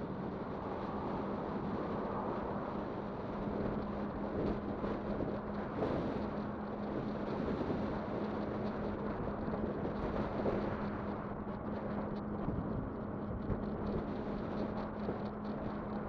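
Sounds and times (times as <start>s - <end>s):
electric bike riding rumble: 0.0s - 16.0s
wind buffeting microphone: 0.0s - 16.0s.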